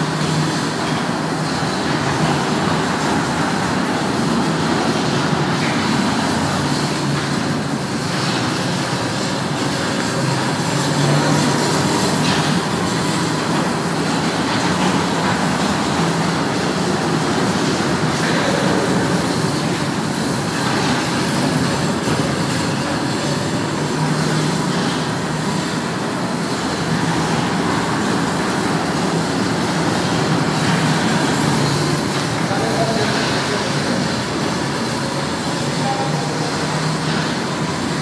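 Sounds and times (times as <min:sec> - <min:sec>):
mini train rumbling: 0:00.0 - 0:38.0.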